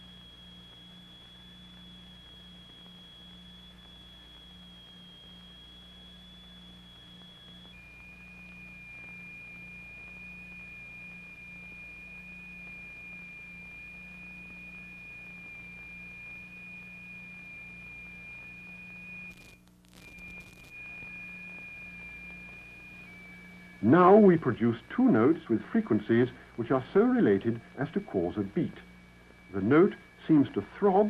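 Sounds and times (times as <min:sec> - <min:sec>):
film soundtrack hiss and hum: 0:00.0 - 0:31.0.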